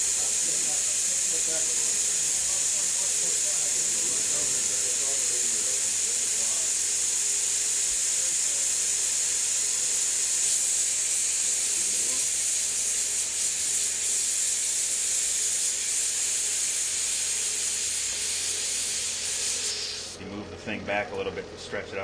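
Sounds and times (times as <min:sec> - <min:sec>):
torch flame hissing: 0:00.0 - 0:20.2.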